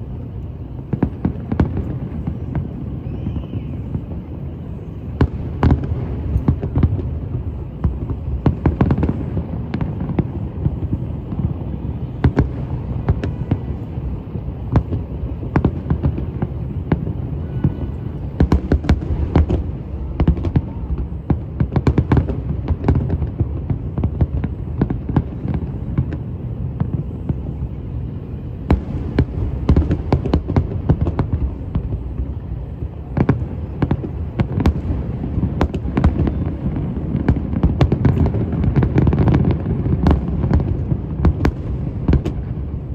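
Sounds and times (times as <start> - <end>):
fireworks bangs and cracks: 0.0 - 42.9
fireworks booms rumbling: 0.0 - 42.9.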